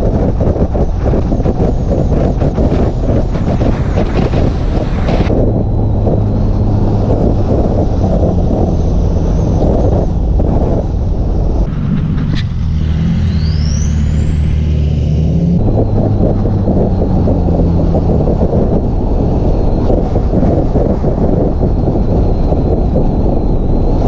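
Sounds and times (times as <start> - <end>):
car engine and exhaust drone: 0.0 - 24.0
wind buffeting microphone: 0.0 - 24.0.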